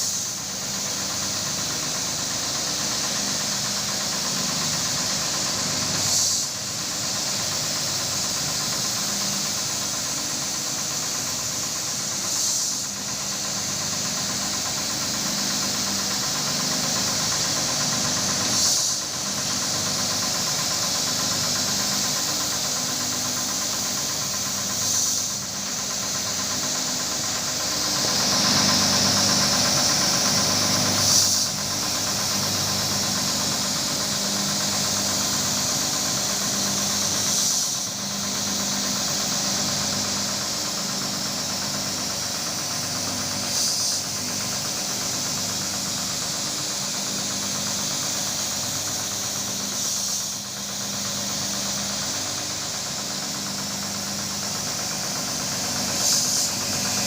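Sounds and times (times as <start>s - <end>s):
carpet-washing machine running: 0.0s - 57.0s.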